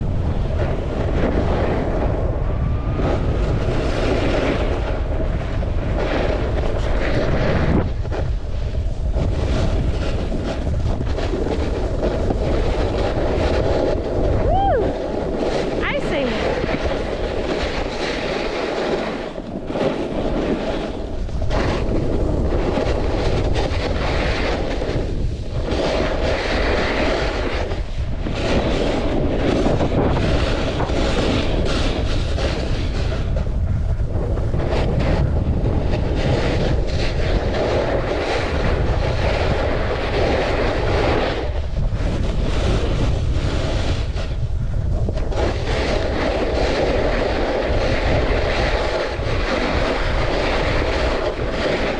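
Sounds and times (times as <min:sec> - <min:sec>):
snowboard scraping over snow: 0:00.0 - 0:51.9
wind buffeting microphone: 0:00.0 - 0:51.9.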